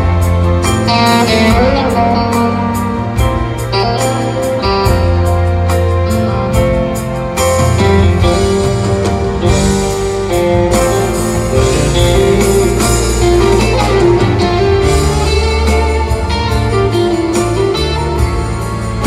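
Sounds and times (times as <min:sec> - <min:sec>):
electric guitar melody: 0:00.0 - 0:19.0
live rock band playing: 0:00.0 - 0:19.0.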